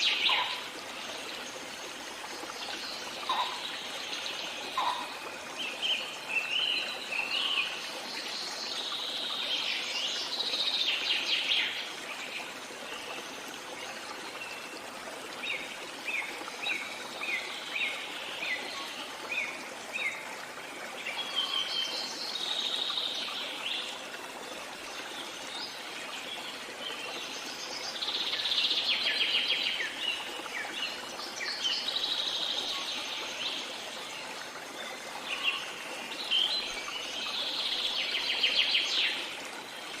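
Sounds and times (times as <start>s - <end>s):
songbirds singing and twittering: 0.0s - 40.0s.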